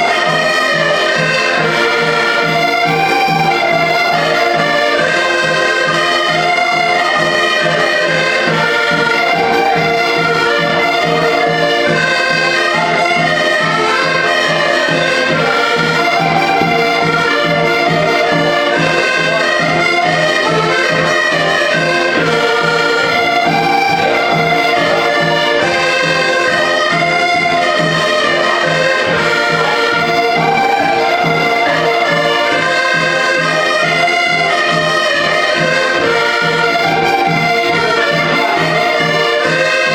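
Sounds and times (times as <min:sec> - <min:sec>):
accordion and brass melody: 0:00.0 - 0:39.9
steady regular beat: 0:00.0 - 0:39.9.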